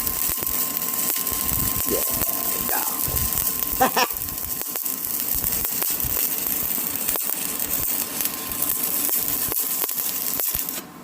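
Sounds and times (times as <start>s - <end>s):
welding arc crackling: 0.0s - 10.9s.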